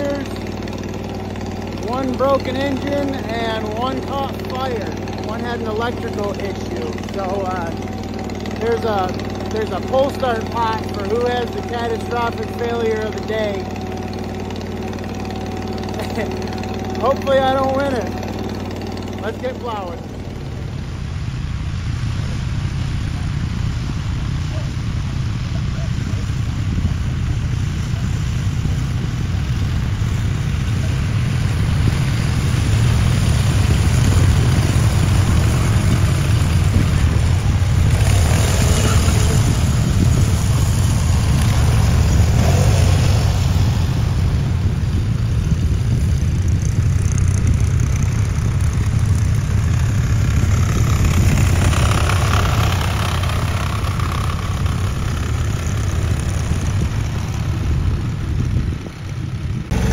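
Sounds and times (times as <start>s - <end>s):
garden tractor engines running: 0.0s - 22.1s, 22.7s - 59.9s.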